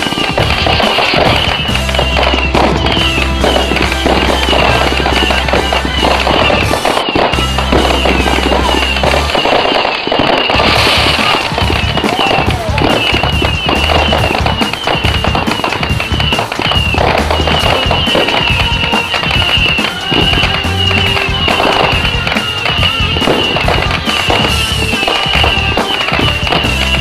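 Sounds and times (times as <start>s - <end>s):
fireworks bangs and crackle: 0.0s - 27.0s
music with bass line: 0.4s - 9.5s, 10.5s - 27.0s.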